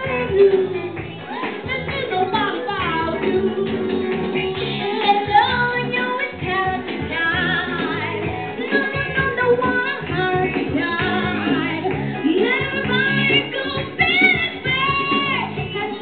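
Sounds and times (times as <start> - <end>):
person singing through pa: 0.0 - 16.0
pop backing music with bass: 0.0 - 16.0.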